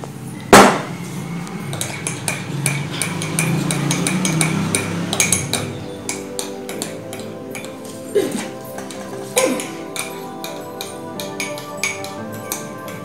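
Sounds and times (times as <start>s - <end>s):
metal spoon scraping and clinking in mug: 1.6s - 13.0s.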